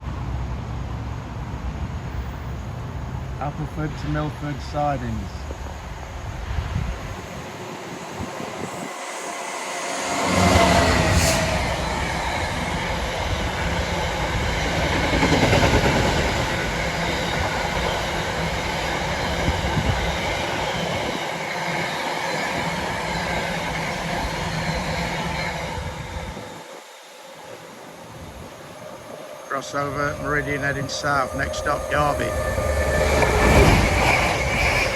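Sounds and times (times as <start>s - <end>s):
freight train passing on rails: 0.0s - 34.9s.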